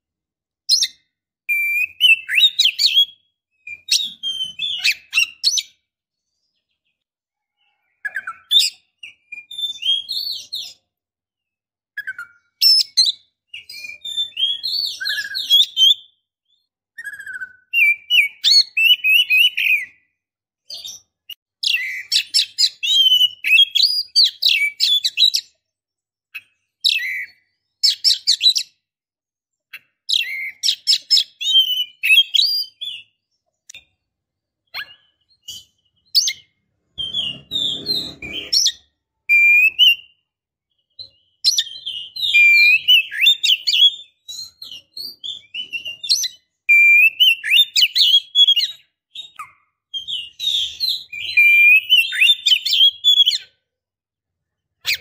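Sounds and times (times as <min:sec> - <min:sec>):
bird chirping and trilling: 0:00.7 - 0:10.8, 0:12.0 - 0:20.1, 0:20.7 - 0:25.6, 0:26.3 - 0:28.8, 0:29.7 - 0:34.0, 0:34.6 - 0:53.5.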